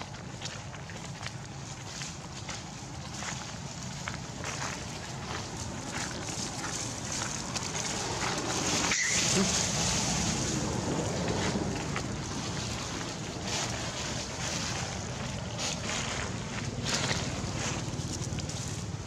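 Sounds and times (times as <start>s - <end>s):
dry leaves rustling: 0.0s - 19.0s
wind rumbling on microphone: 0.0s - 19.0s.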